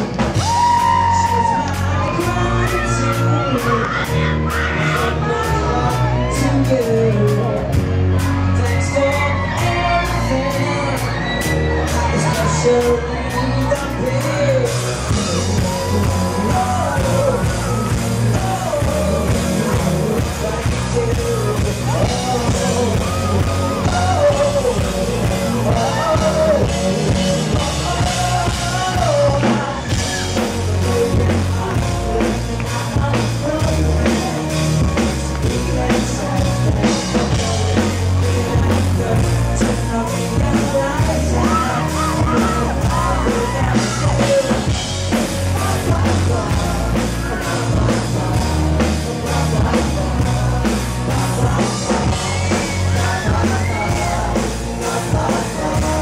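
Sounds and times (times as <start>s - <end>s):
man singing: 0.0s - 56.0s
rock band playing live: 0.0s - 56.0s.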